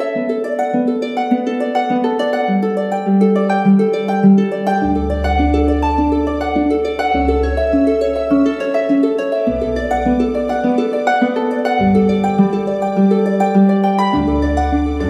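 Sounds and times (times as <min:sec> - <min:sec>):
plucked notes music: 0:00.0 - 0:15.0.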